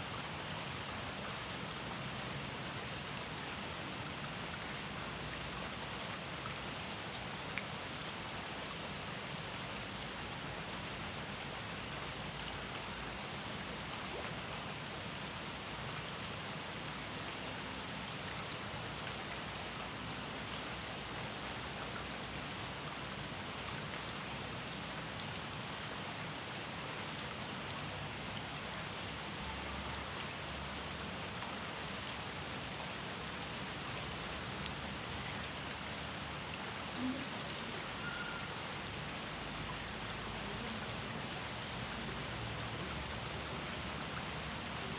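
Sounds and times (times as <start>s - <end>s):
rain falling on a pond: 0.0s - 44.9s.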